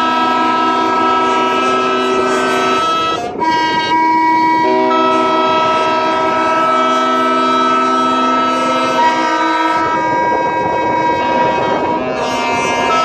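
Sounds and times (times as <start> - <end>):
ship horns blowing: 0.0 - 13.0.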